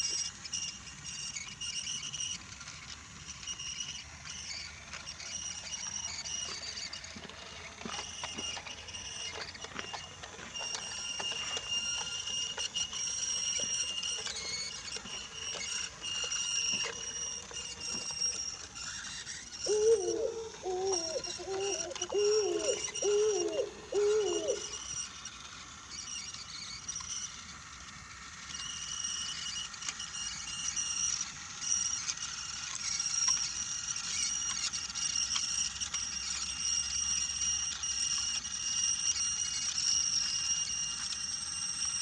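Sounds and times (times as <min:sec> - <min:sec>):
toy train motor whining: 0:00.0 - 0:42.0.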